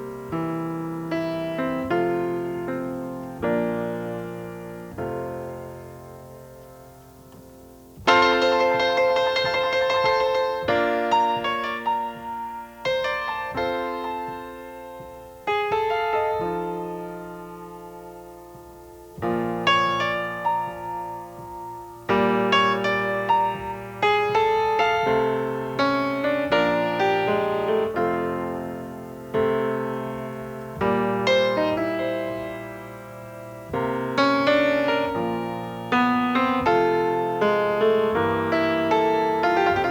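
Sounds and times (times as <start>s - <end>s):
slow gentle piano piece: 0.0s - 39.9s.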